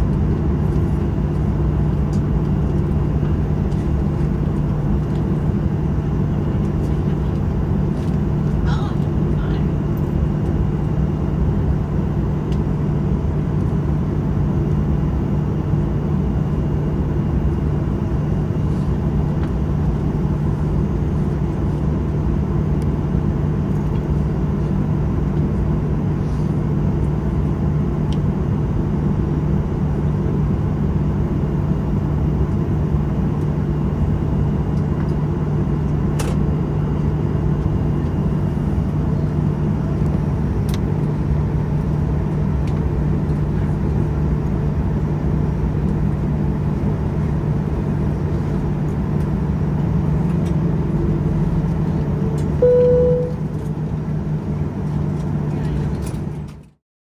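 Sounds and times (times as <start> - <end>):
aircraft cabin drone: 0.0 - 56.7.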